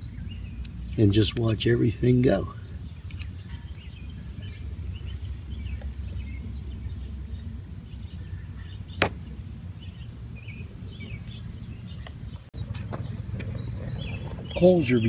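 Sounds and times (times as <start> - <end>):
low rumble: 2.5 - 15.0.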